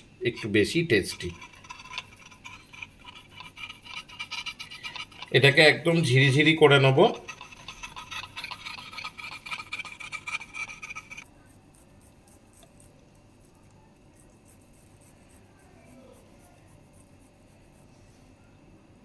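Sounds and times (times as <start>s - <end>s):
cheese grating on hand grater: 0.3s - 17.9s.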